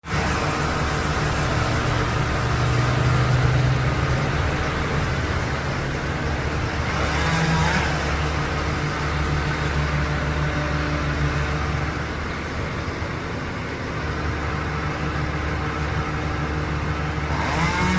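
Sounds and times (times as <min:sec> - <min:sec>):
large engine running: 0:00.0 - 0:17.9.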